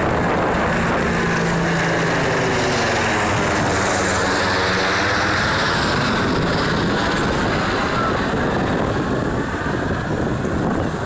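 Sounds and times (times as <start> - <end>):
helicopter rotor and turbines: 0.0 - 11.0
low hum: 0.0 - 11.0.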